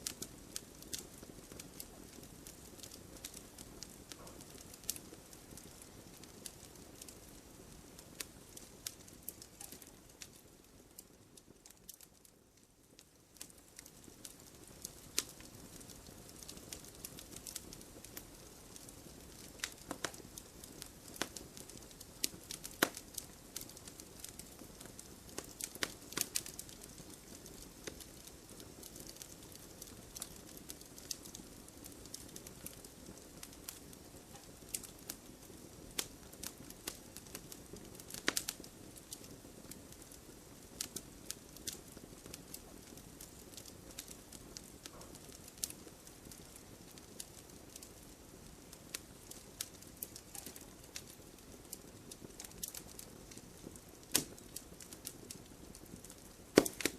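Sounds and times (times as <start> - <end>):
logs crackling in fireplace: 0.0 - 56.9.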